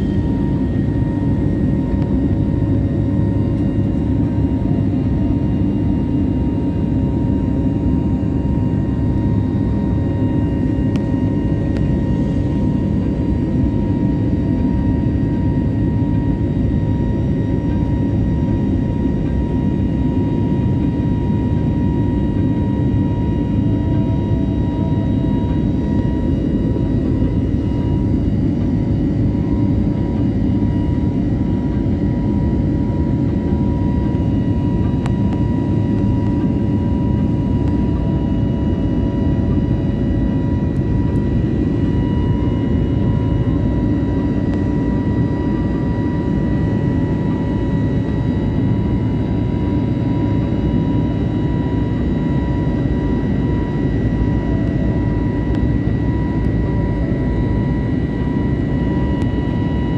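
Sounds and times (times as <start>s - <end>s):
jet cabin engine and air rush: 0.0s - 59.9s.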